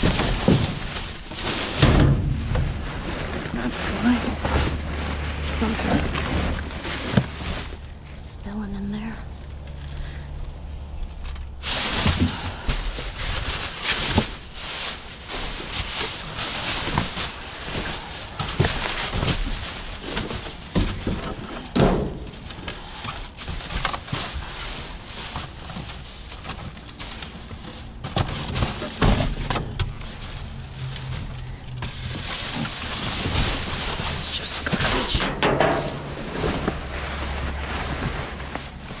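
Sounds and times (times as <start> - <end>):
boxes knocking and scraping: 0.0 - 7.8, 11.6 - 39.0
plastic bags crinkling: 0.0 - 8.0, 11.1 - 39.0.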